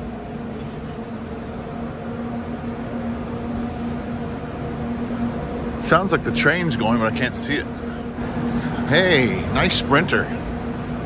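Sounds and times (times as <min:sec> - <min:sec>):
mechanical hum with low drone: 0:00.0 - 0:11.0.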